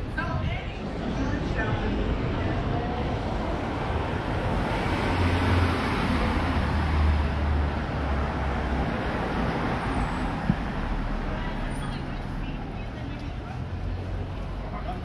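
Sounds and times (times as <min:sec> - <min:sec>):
city background hum: 0:00.0 - 0:15.0.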